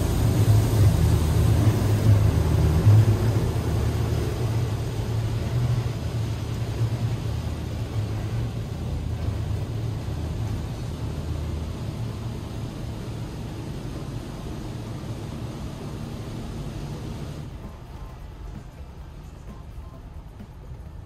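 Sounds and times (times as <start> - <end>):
car wash rumble and rushing hiss: 0.0 - 21.0.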